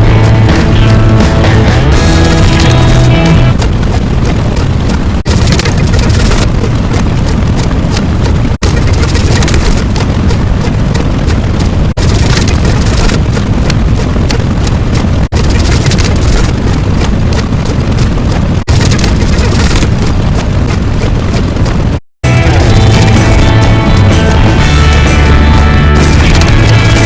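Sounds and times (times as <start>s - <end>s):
dense rumbling crackling noise: 0.0s - 27.0s.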